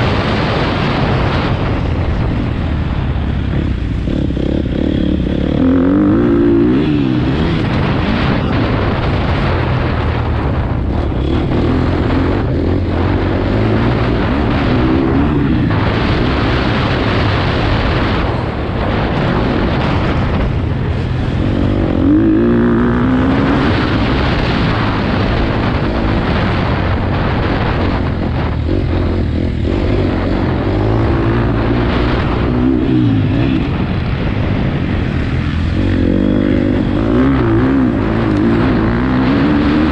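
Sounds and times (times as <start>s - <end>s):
dirt bike engine revving: 0.0s - 39.9s
wind buffeting microphone: 0.0s - 39.9s.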